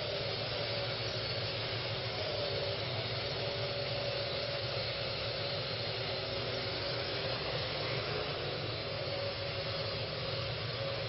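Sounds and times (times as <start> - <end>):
quadcopter rotors whirring: 0.0 - 11.0.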